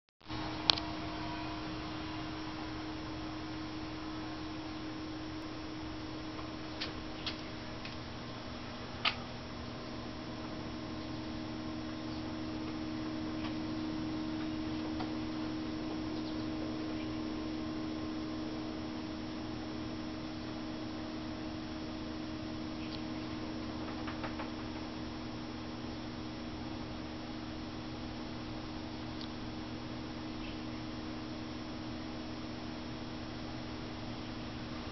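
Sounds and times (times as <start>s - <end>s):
small pump humming: 0.2s - 34.9s.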